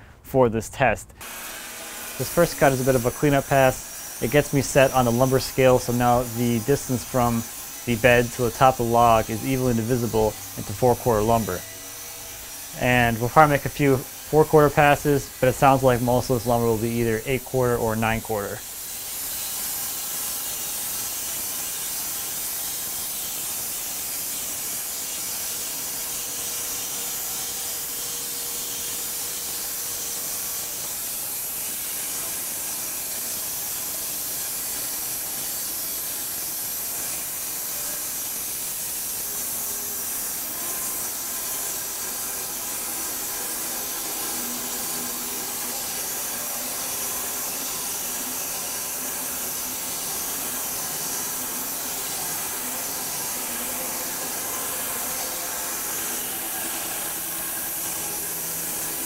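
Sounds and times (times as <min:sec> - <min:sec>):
faint steady saw tones: 0:00.0 - 0:59.0
band saw blade hissing through wood: 0:01.2 - 0:59.0.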